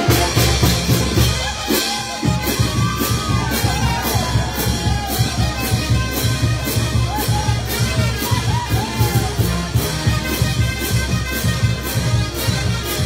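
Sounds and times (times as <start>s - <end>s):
bass drum: 0.0s - 13.0s
brass band playing: 0.0s - 13.0s.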